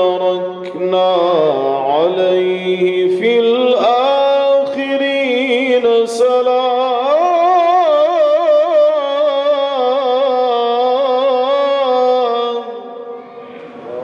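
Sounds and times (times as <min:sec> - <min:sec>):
man reciting melodically: 0:00.0 - 0:13.1.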